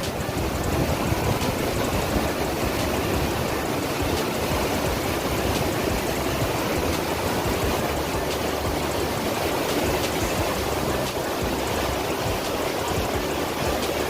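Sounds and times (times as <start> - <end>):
water rushing through dam gates: 0.0 - 14.0.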